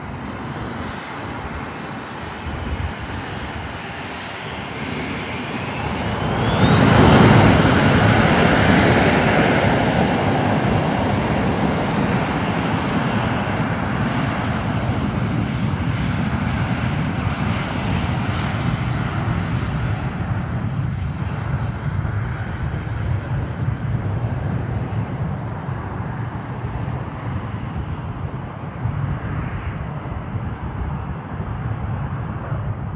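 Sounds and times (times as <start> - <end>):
jet engine whine spooling up: 0.0 - 32.9.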